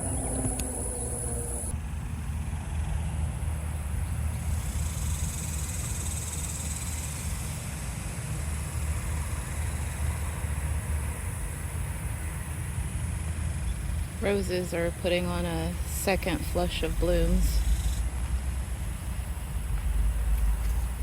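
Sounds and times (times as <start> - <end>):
faint high insect drone: 0.0 - 21.0
low outdoor rumble: 0.0 - 21.0.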